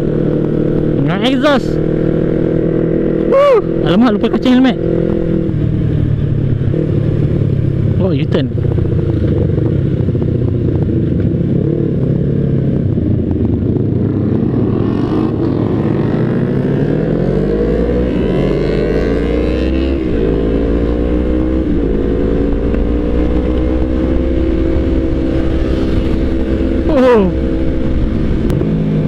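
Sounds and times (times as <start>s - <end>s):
motorcycle engine accelerating: 0.0s - 29.0s
wind noise: 4.8s - 29.0s.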